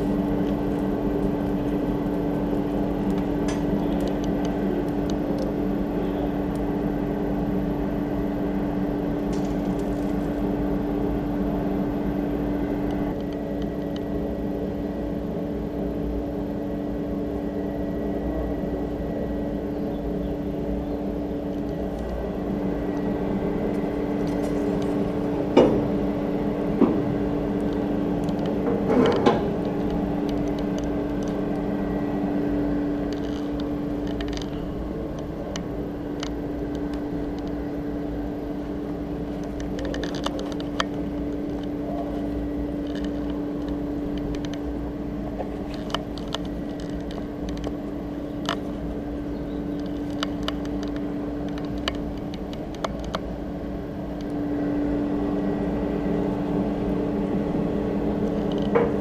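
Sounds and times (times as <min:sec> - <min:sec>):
forge blower whirring hum: 0:00.0 - 0:59.0.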